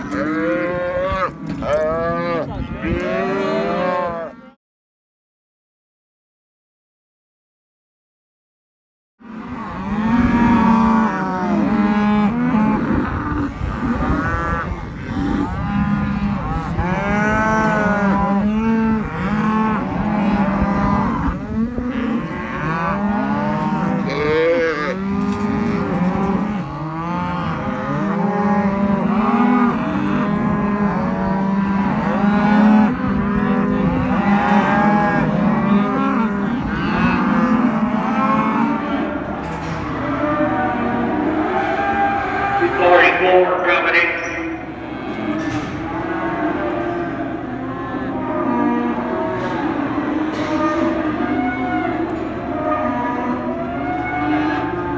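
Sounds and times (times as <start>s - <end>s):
cattle mooing and bawling: 0.0s - 4.6s, 9.2s - 54.9s.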